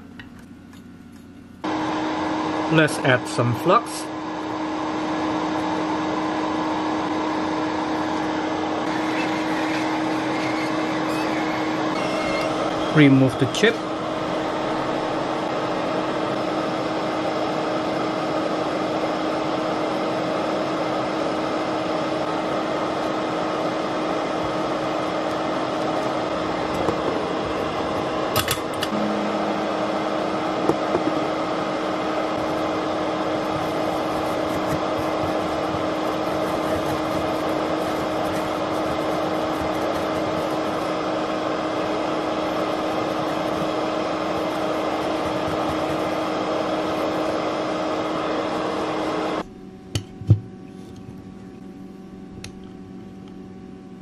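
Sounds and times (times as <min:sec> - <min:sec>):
hot air station blowing: 0:01.6 - 0:49.4.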